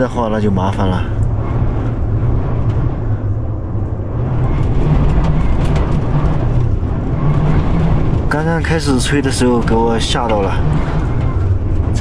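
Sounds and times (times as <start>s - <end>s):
strong wind buffeting camper: 0.0s - 12.0s
rattling ticks: 0.7s - 12.0s.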